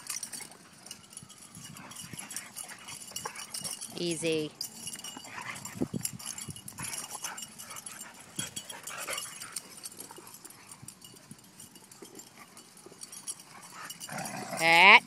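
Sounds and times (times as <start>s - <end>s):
dogs play-fighting: 0.0s - 14.7s.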